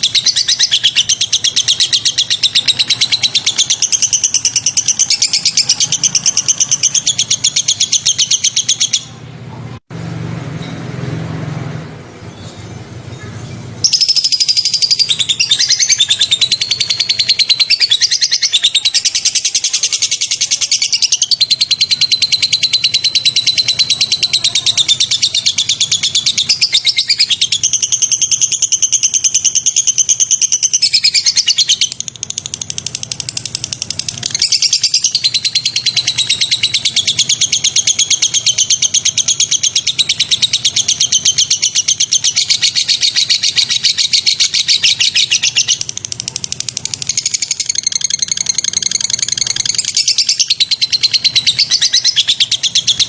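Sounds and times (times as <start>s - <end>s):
songbirds trilling: 0.0s - 9.2s, 12.2s - 53.0s.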